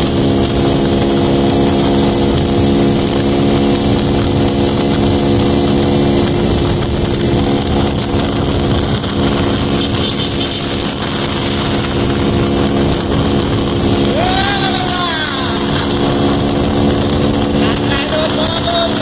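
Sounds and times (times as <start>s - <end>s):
motorcycle engine running: 0.0s - 19.0s
rush of wind noise: 0.0s - 19.0s.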